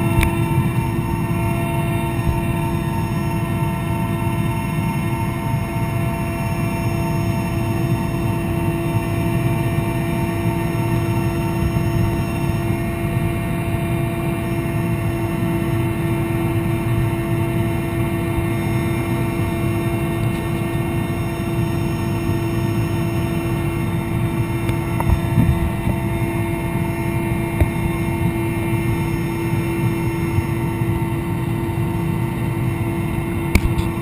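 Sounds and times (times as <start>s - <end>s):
helicopter cabin rumble: 0.0s - 34.0s
high whining engine tones: 0.0s - 34.0s.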